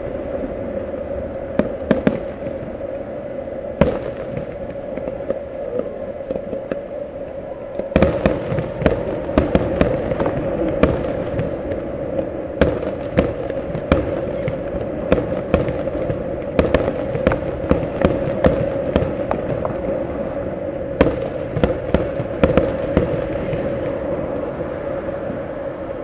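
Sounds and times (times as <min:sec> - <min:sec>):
steady hum: 0:00.0 - 0:26.0
distant fireworks bangs: 0:01.5 - 0:02.8, 0:03.8 - 0:06.8, 0:07.8 - 0:24.4.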